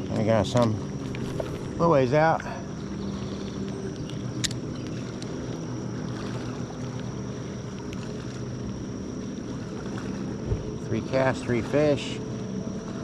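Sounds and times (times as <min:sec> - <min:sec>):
boat motor humming: 0:00.0 - 0:13.0
high whine: 0:00.0 - 0:13.0.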